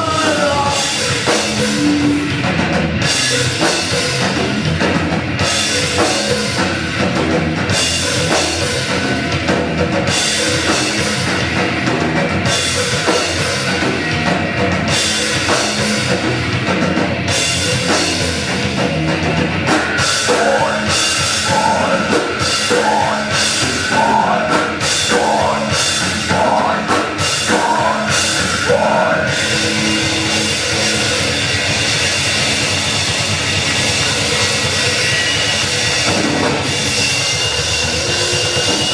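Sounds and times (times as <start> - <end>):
guitar lead with bending notes: 0.0 - 38.9
heavy rock band playing: 0.0 - 38.9.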